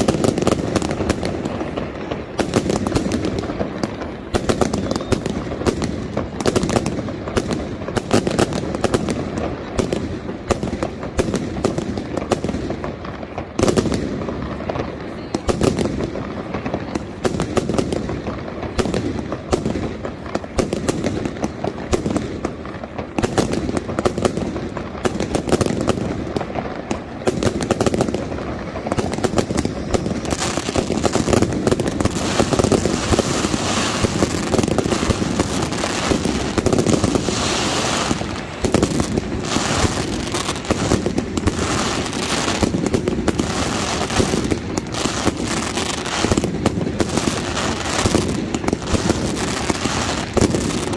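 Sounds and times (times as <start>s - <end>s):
firecracker bangs: 0.0s - 50.9s.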